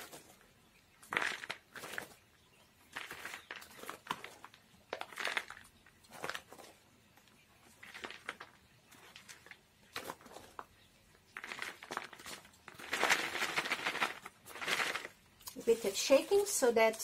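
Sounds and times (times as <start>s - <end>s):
bark potting medium crunching: 0.0s - 17.0s.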